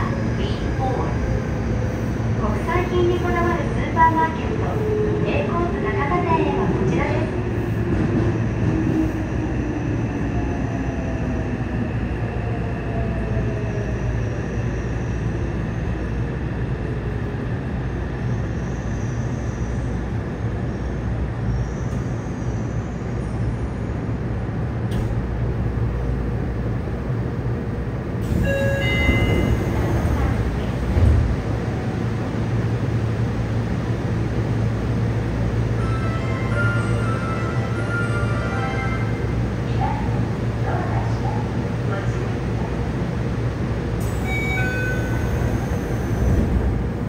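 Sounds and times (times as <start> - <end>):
wheels rumbling on rail: 0.0 - 47.0.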